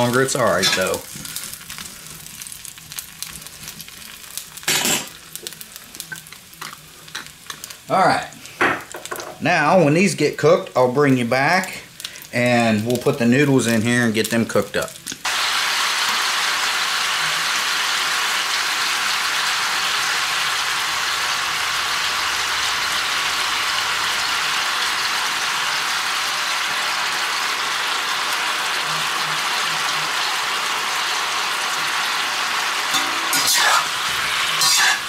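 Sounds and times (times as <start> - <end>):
meatballs sizzling in a wok: 0.0 - 35.0.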